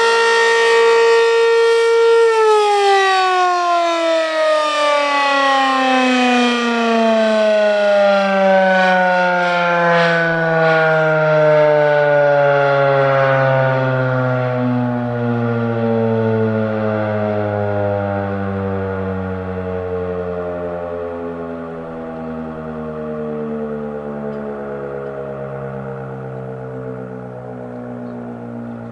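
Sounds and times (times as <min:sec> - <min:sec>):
warning siren winding down: 0:00.0 - 0:28.9.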